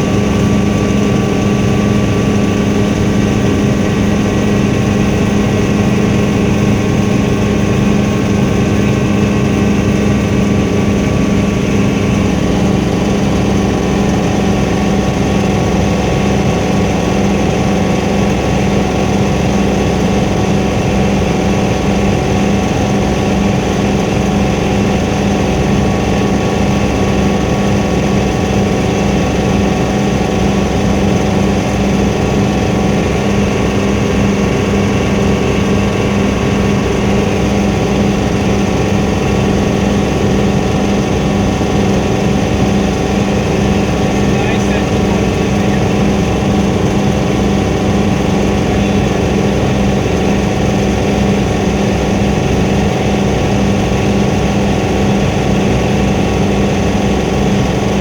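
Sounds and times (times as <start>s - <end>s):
helicopter engine and rotors: 0.0s - 58.0s
steady hums: 0.0s - 58.0s.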